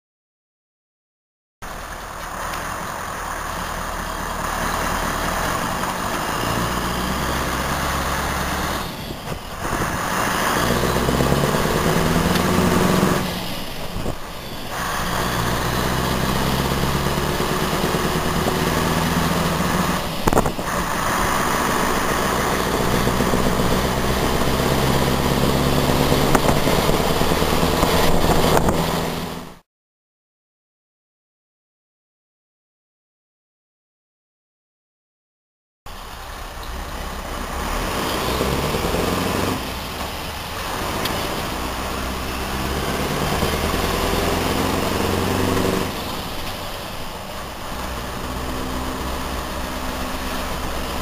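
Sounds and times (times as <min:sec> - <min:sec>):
diesel engine accelerating: 0:01.6 - 0:29.6, 0:35.9 - 0:51.0.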